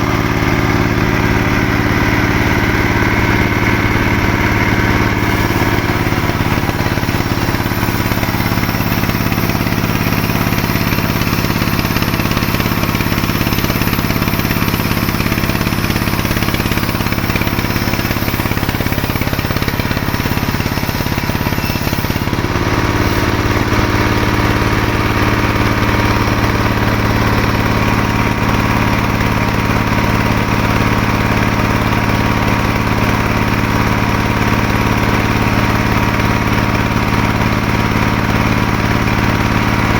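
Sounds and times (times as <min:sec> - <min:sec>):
sawmill machinery humming and whining: 0:00.0 - 0:39.9.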